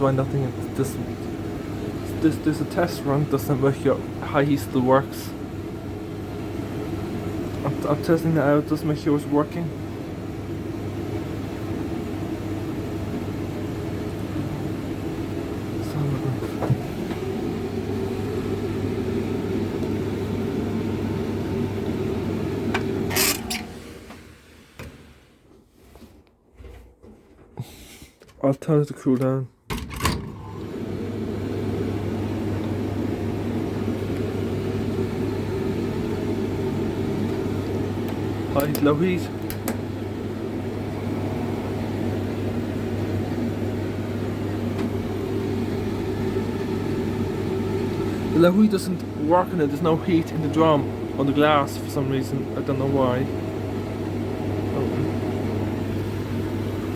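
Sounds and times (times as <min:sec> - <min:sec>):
tumble dryer running: 0:00.0 - 0:25.6, 0:29.7 - 0:56.9.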